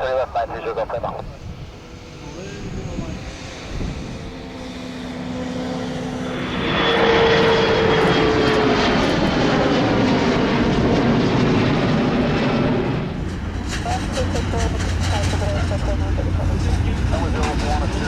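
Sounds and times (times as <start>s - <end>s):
jet engines roaring on takeoff: 0.0s - 18.0s.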